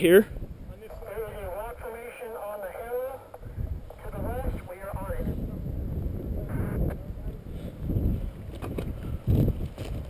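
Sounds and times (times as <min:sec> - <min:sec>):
wind buffeting microphone: 0:00.0 - 0:01.8, 0:03.4 - 0:10.0.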